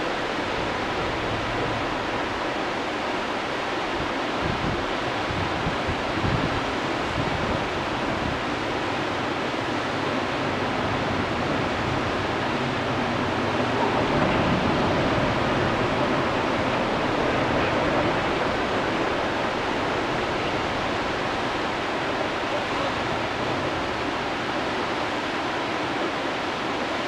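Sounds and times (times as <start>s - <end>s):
river rapids rushing: 0.0s - 27.0s.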